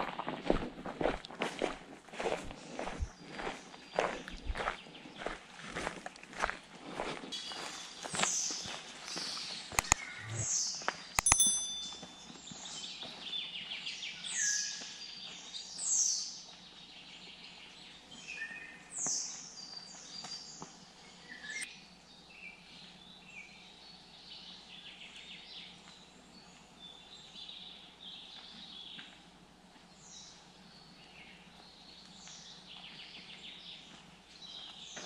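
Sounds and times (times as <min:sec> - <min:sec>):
songbirds singing: 0:02.6 - 0:06.7, 0:07.4 - 0:35.0.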